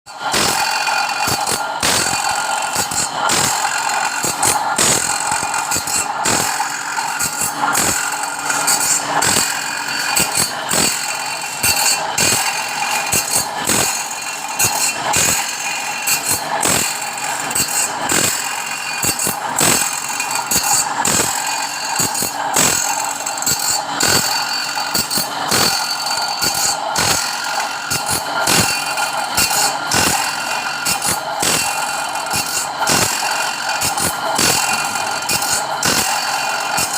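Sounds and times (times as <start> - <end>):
machinery whine: 0.1 - 36.9.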